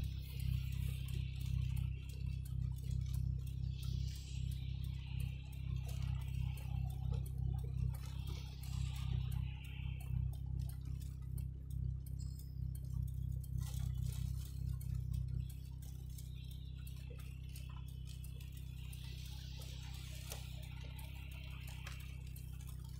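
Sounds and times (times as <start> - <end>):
car cabin rumble: 0.0 - 22.9
light ticking: 0.0 - 22.9.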